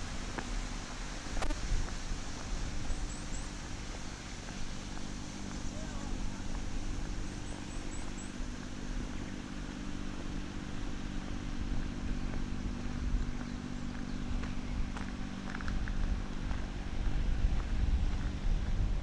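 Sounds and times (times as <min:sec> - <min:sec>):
low rumble: 0:00.0 - 0:19.0
vehicle engine humming: 0:00.0 - 0:19.0.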